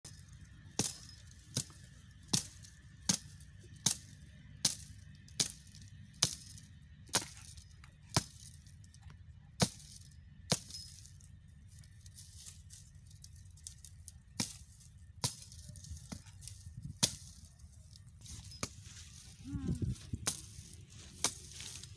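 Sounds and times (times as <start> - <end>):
blade chopping dry stems: 0.1 - 11.0, 11.8 - 21.9.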